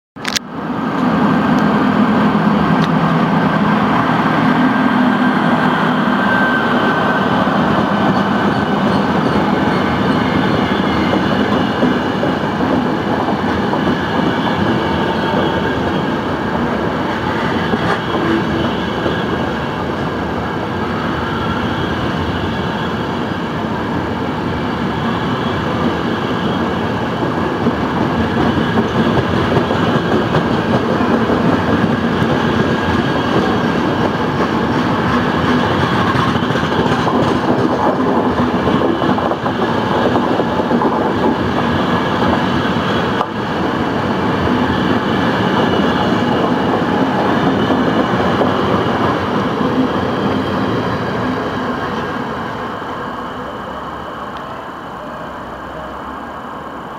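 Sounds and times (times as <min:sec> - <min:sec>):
train rumbling past: 0:00.2 - 0:56.9.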